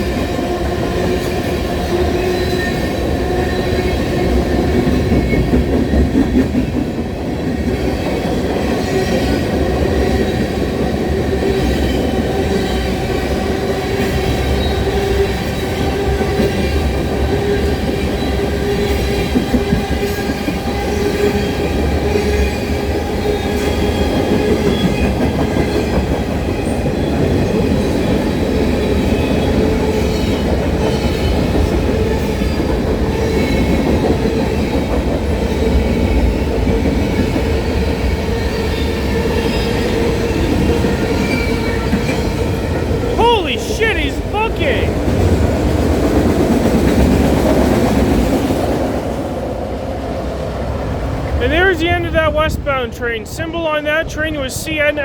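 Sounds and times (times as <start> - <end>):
train wheels rumbling on rails: 0.0 - 43.2, 44.2 - 53.0.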